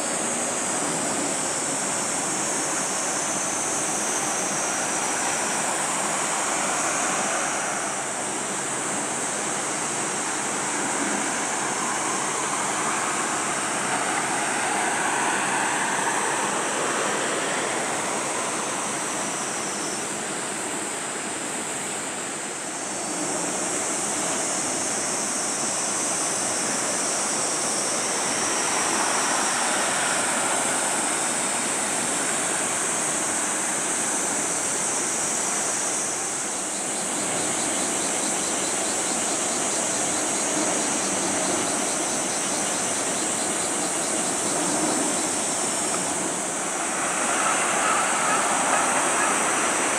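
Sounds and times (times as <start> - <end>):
sea waves rushing: 0.0 - 36.4, 44.4 - 49.9
high hiss: 0.0 - 49.9.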